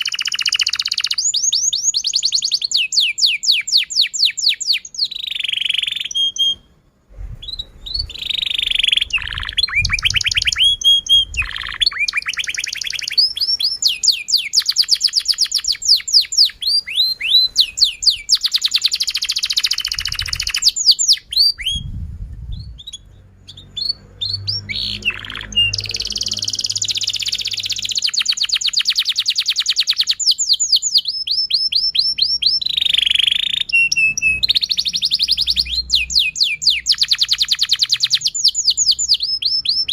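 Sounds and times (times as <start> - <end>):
canary singing trills: 0.0 - 6.7, 7.4 - 21.9, 22.6 - 39.9.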